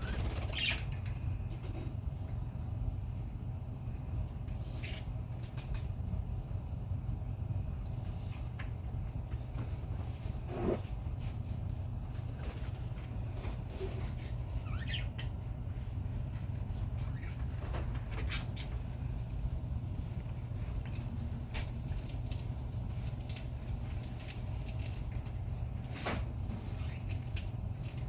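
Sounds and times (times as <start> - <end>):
budgies clicking and scratching: 0.0 - 28.0
steady low hum: 0.0 - 28.0.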